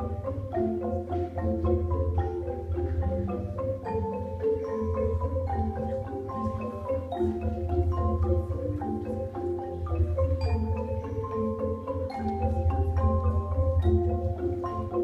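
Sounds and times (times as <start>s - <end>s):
light percussion: 0.0s - 15.0s
marimba melody: 0.0s - 15.0s.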